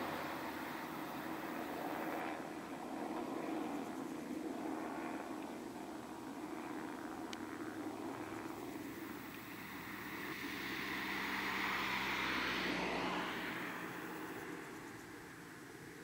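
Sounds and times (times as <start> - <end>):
jet engines drone: 0.0 - 16.0.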